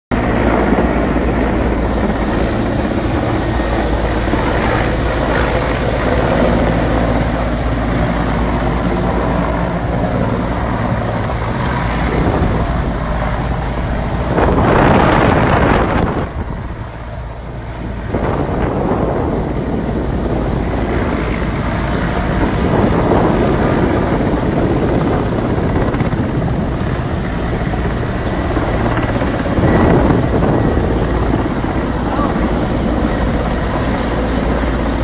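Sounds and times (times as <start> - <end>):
helicopter engine and rotor: 0.1 - 35.0.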